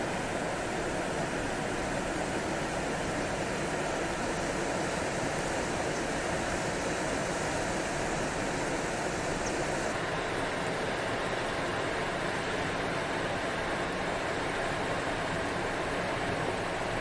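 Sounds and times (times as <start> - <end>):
river rushing in flood: 0.0 - 17.0.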